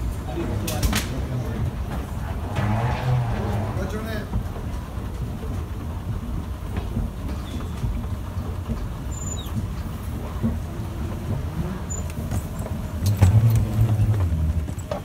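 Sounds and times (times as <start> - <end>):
escalator rumbling: 0.0 - 15.0
wheeled suitcase rolling: 0.0 - 15.0.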